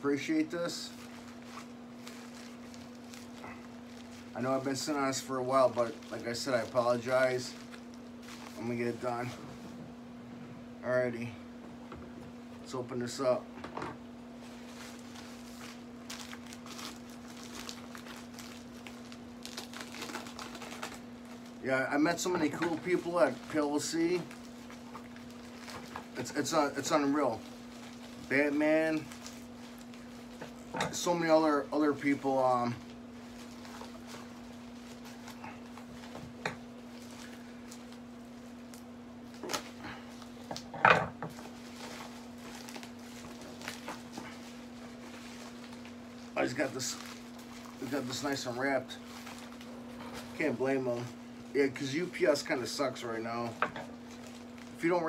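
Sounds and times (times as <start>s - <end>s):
steady low hum: 0.0s - 55.0s
paper wrapping crinkling: 0.1s - 9.8s, 14.4s - 55.0s.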